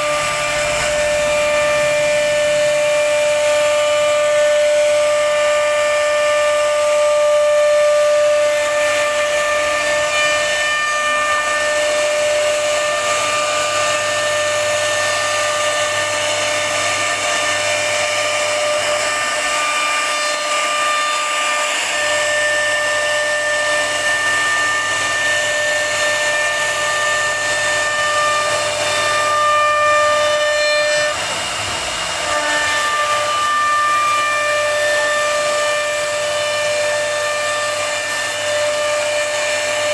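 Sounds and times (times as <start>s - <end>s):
bit cutting into wood: 0.0s - 39.9s
router spindle whine: 0.0s - 39.9s.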